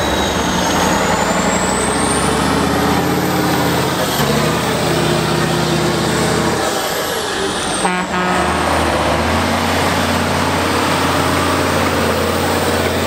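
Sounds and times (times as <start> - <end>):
diesel truck engines working hard: 0.0 - 13.0
truck engine droning: 0.0 - 13.0.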